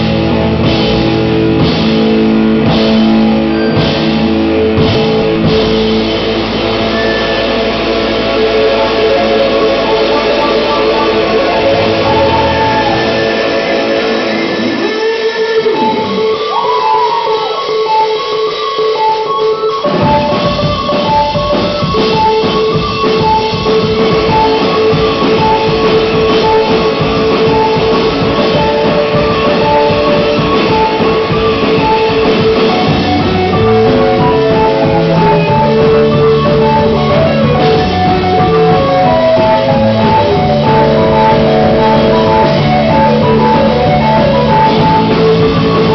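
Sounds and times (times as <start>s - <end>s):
bass: 0.0s - 45.9s
drum kit: 0.0s - 45.9s
electric guitar: 0.0s - 45.9s
keyboard: 0.0s - 45.9s.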